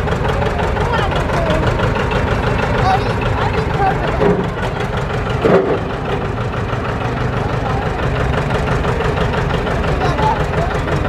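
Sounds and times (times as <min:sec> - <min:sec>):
tractor engine running slowly: 0:00.0 - 0:11.0.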